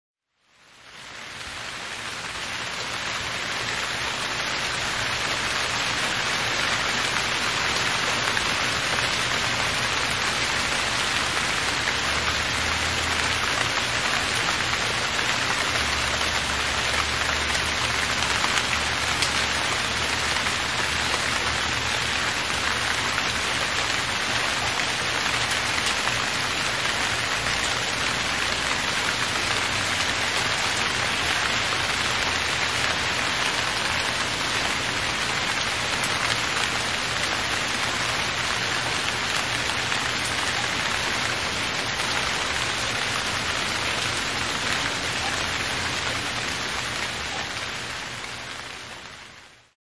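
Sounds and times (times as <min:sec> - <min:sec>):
rain falling on foliage: 0:00.2 - 0:49.8.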